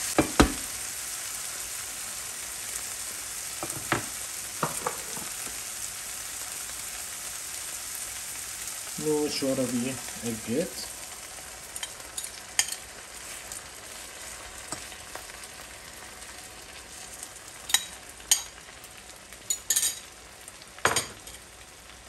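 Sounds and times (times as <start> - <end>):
eggs sizzling in a pan: 0.0 - 22.0.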